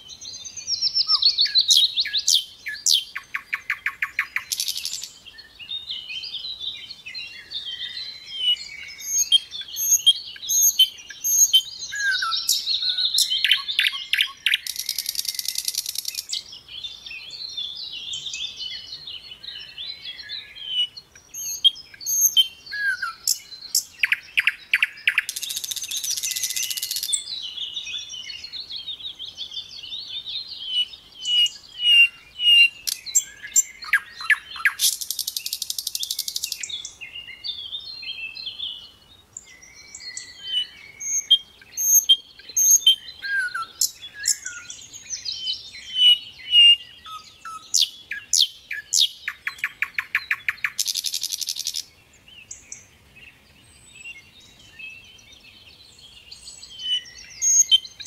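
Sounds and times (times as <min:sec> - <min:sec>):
bird singing: 0:00.0 - 0:58.0.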